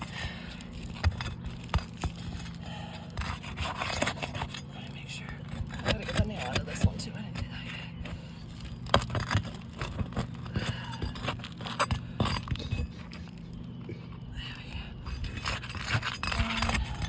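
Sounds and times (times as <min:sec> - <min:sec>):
metal tool scraping roof shingles: 0:00.0 - 0:17.0
steady low hum: 0:00.0 - 0:17.0.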